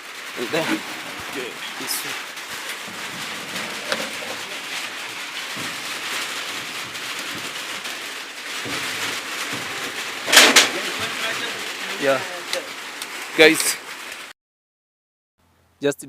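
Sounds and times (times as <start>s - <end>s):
light rain falling: 0.0s - 14.3s.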